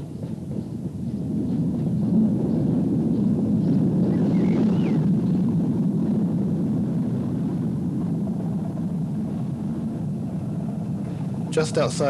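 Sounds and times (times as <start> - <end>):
train engine and wheel rumble: 0.0 - 12.0.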